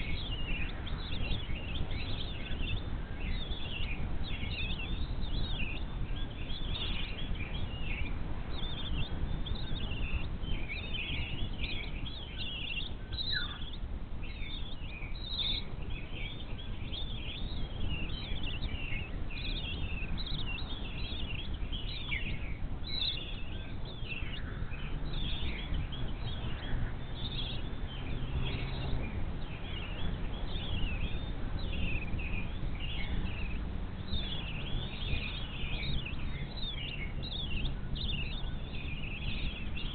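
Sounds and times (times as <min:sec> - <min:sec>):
birds chirping: 0:00.0 - 0:39.9
steady low rumble: 0:00.0 - 0:39.9.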